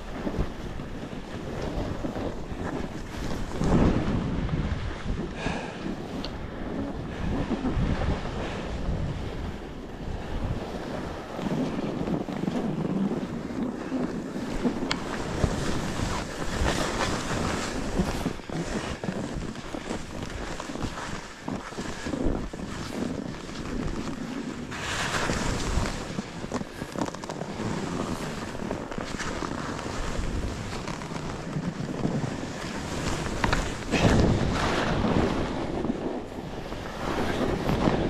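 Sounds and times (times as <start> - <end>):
skis scraping over snow: 0.0 - 38.0
wind buffeting microphone: 0.0 - 38.0.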